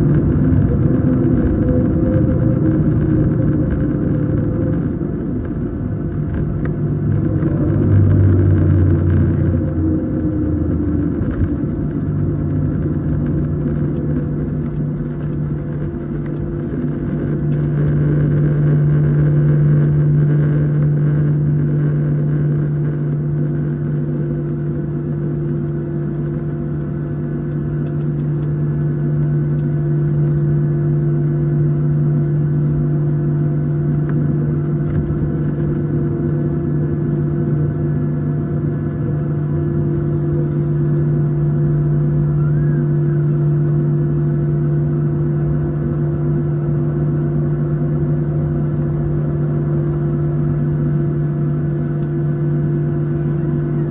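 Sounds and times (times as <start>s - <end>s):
jet engines droning in cabin: 0.0s - 53.9s.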